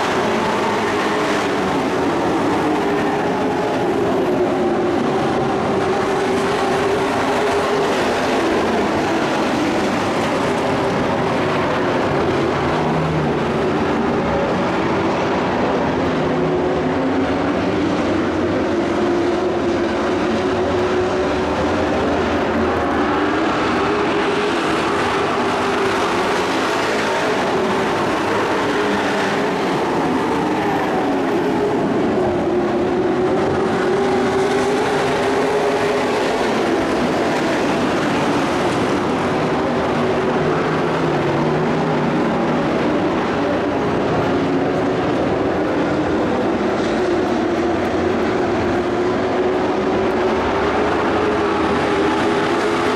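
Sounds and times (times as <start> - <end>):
racing trucks engine drone: 0.0 - 52.9.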